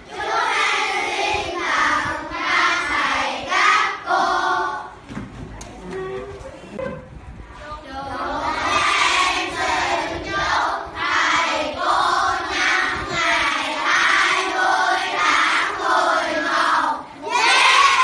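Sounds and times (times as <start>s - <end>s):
children singing together: 0.0s - 5.0s, 7.9s - 18.0s.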